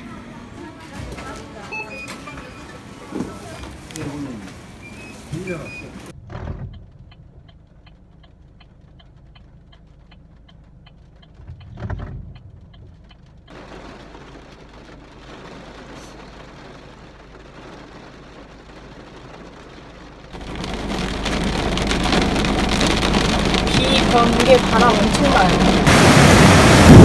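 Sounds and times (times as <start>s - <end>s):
rain ticking on a car: 0.6s - 27.0s
rain hissing on car roof: 1.2s - 27.0s.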